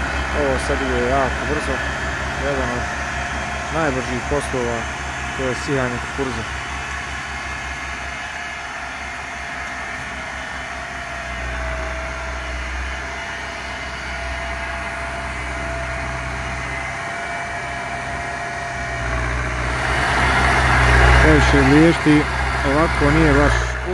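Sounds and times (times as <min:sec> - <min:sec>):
thin steady whine: 0:00.0 - 0:23.9
tractor diesel engine running: 0:00.0 - 0:23.9.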